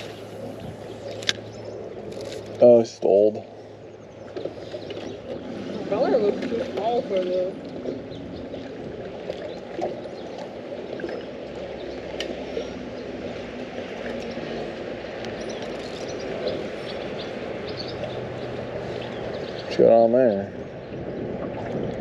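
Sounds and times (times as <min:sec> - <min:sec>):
water trickling and gurgling: 0:00.0 - 0:22.0.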